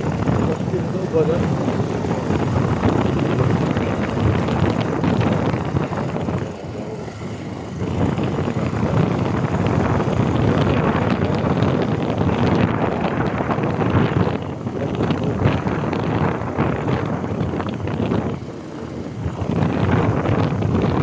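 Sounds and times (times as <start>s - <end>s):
motorcycle running: 0.0s - 21.0s
wind buffeting microphone: 0.0s - 21.0s.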